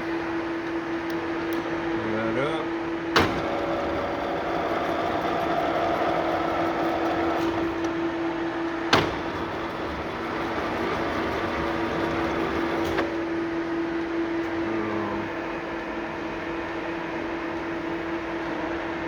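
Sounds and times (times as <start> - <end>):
lathe running hum: 0.0 - 19.0.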